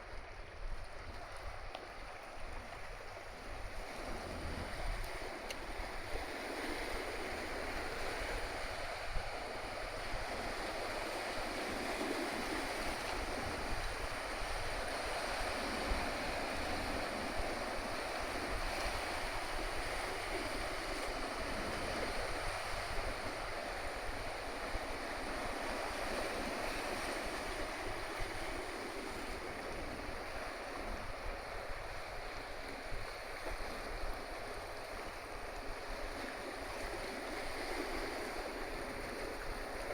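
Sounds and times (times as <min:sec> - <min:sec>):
sea water rushing along hull: 0:00.0 - 0:39.9.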